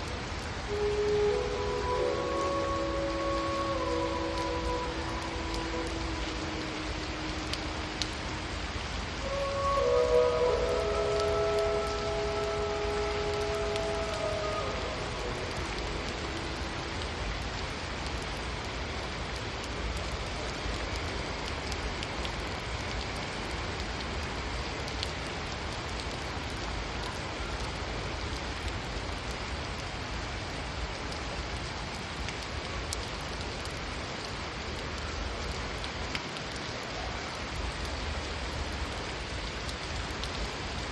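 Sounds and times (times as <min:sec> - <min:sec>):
rain drop ticks: 0:00.0 - 0:40.9
steady rain hiss: 0:00.0 - 0:40.9.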